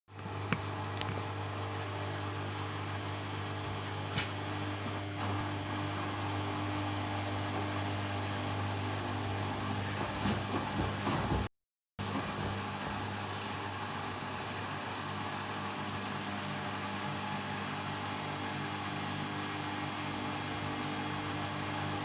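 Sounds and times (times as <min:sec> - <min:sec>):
washing machine motor hum: 0:00.1 - 0:22.0.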